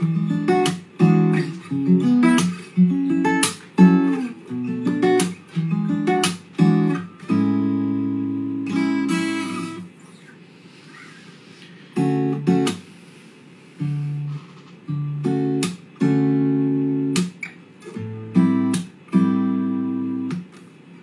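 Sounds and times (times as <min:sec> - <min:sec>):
acoustic guitar strumming chords: 0:00.0 - 0:10.1, 0:11.9 - 0:20.6.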